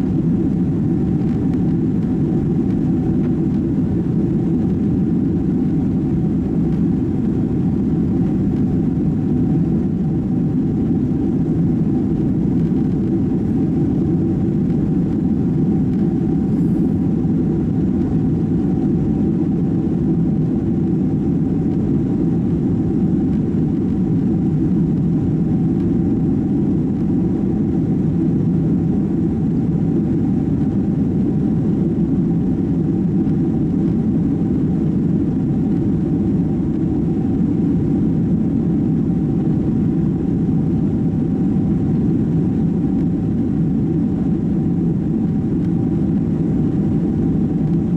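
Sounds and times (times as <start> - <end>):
constant cabin hum: 0.0 - 47.9
jet engine cabin rumble: 0.0 - 47.9.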